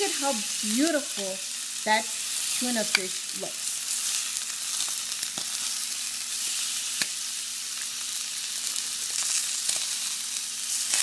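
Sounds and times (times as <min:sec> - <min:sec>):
fish steaks sizzling in pan: 0:00.0 - 0:11.0.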